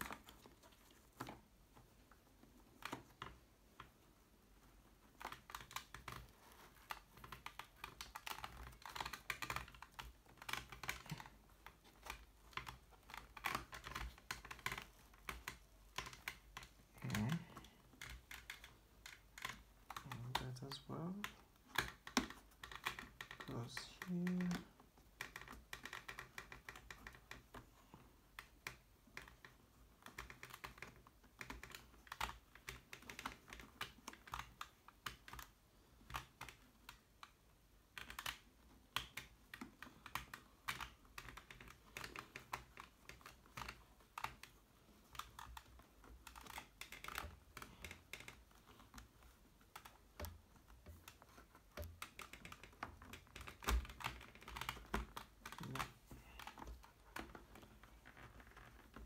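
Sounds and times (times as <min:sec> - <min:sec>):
small plastic clicks and taps: 0:00.0 - 0:59.0.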